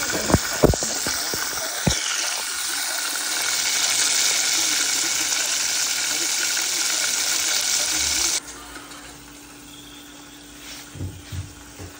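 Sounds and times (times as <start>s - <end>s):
chicken frying in hot oil: 0.0s - 10.6s.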